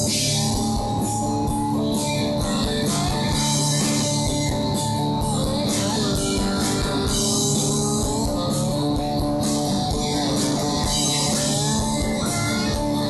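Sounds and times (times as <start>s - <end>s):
acoustic guitar: 0.0s - 13.0s
bass guitar: 0.0s - 13.0s
drum kit: 0.0s - 13.0s
electric guitar: 0.0s - 13.0s.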